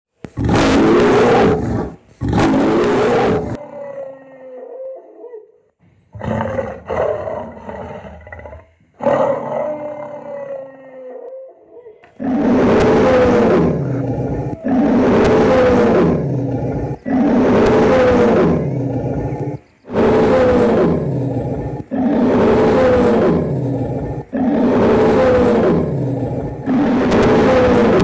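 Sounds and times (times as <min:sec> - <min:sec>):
pitched growling calls: 0:00.3 - 0:05.5, 0:06.2 - 0:28.0
dinosaur roaring: 0:00.4 - 0:04.9, 0:06.2 - 0:11.3, 0:12.1 - 0:28.0.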